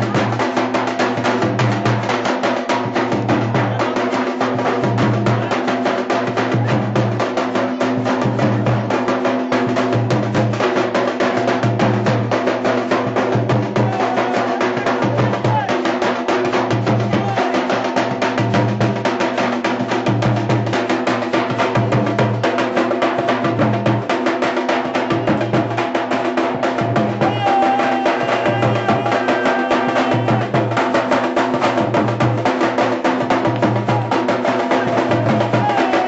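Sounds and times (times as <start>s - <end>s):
dhol drumming: 0.0s - 36.0s.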